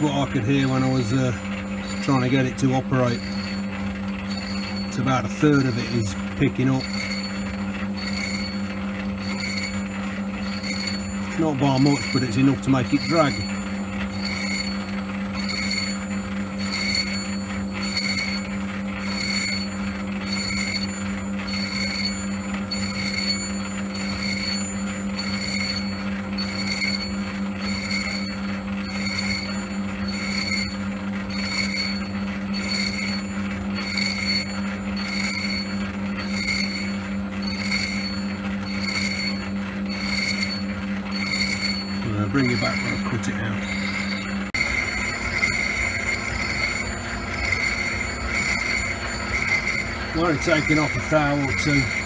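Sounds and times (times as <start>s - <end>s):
metal lathe humming: 0.0s - 52.0s.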